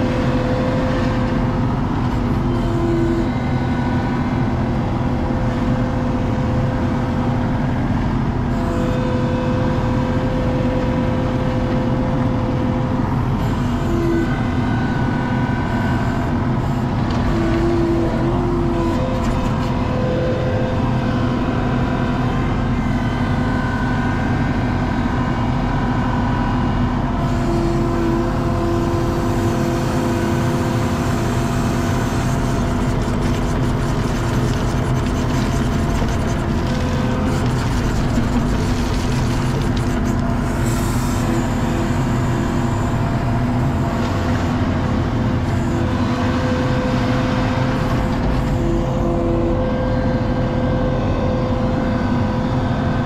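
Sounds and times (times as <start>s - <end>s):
skid steer engine running: 0.0s - 53.0s.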